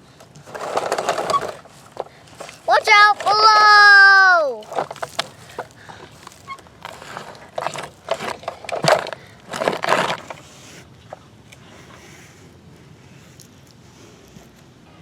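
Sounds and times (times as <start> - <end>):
dirt crunching under toy loader: 0.0 - 14.7.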